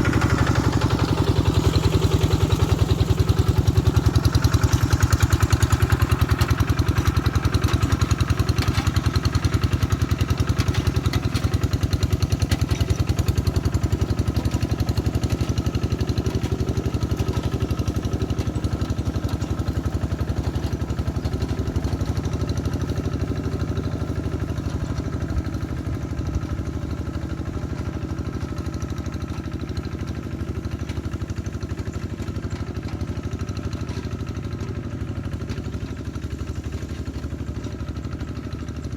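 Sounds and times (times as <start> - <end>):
diesel tractor engine chugging: 0.0 - 38.9.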